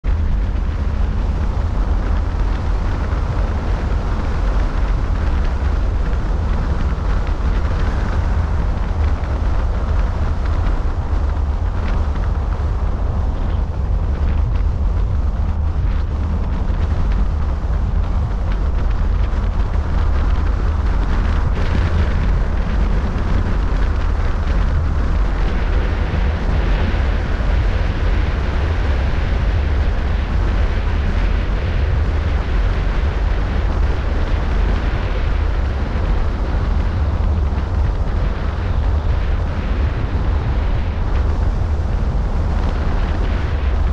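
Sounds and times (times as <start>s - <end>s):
car road noise rumble: 0.0s - 43.9s
wind buffeting microphone: 0.0s - 43.9s.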